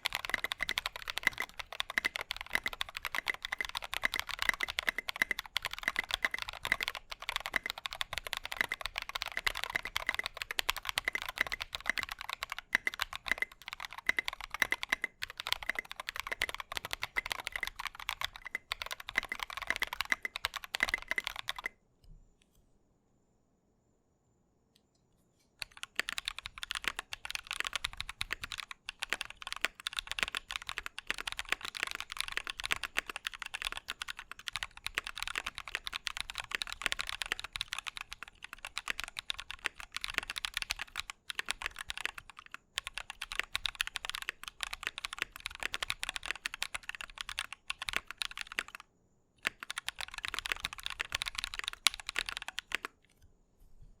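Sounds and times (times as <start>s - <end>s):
fast typing on mechanical keyboard: 0.0s - 21.7s, 25.6s - 53.0s.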